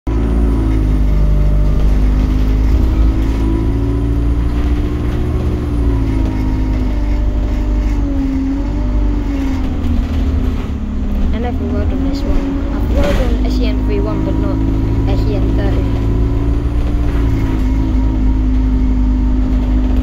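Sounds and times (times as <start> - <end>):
bus engine rumble: 0.1 - 20.0.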